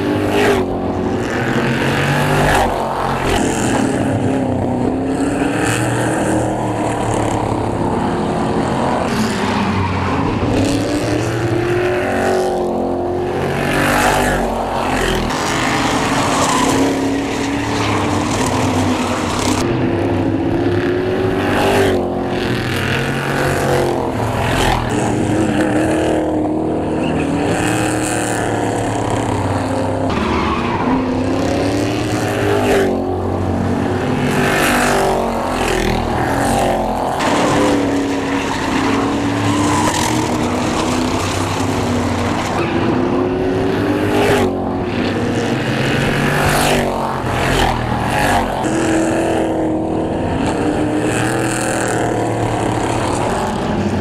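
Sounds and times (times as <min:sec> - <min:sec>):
race truck engines passing: 0:00.0 - 0:54.0.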